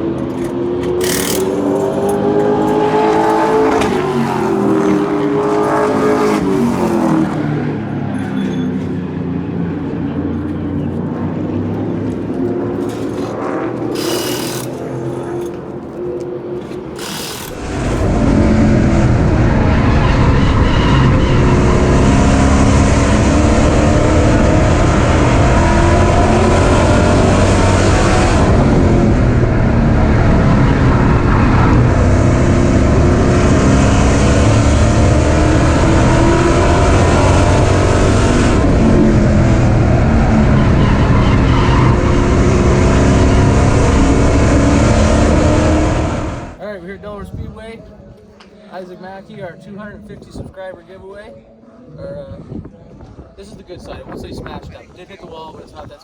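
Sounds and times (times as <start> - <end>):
loud rough engine noise: 0.0 - 46.6
race car engine: 0.0 - 46.6.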